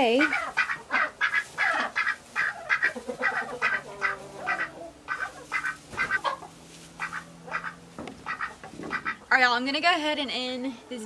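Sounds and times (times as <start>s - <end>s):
ducks quacking: 0.0s - 9.4s.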